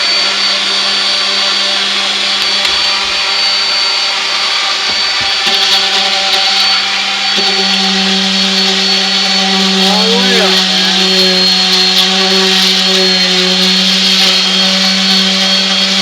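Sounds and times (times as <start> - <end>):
orbital sander sanding wood: 0.0 - 16.0.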